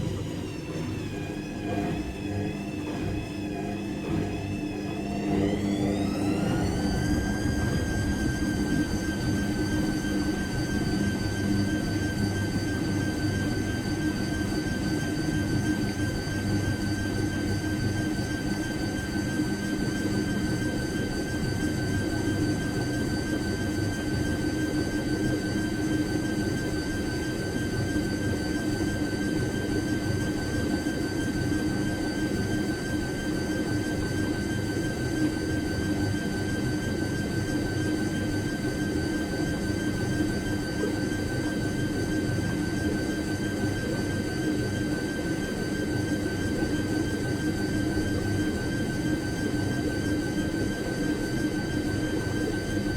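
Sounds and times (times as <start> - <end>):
washing machine motor whine: 0.0 - 52.9.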